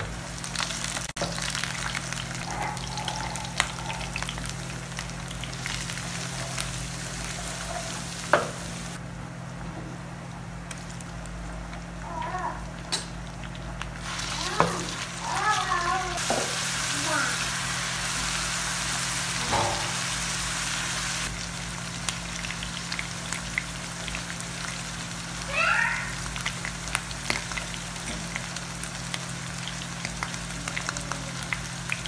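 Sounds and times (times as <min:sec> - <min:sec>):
meat sizzling in a pan: 0:00.0 - 0:09.0, 0:13.9 - 0:32.0.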